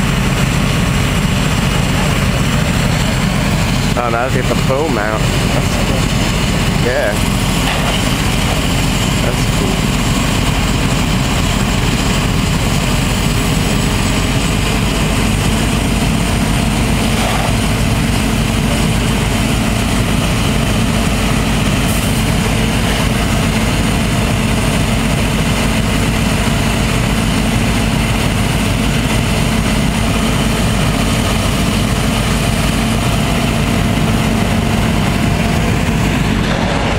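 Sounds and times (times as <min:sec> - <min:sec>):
fire engine engine droning: 0:00.0 - 0:36.9.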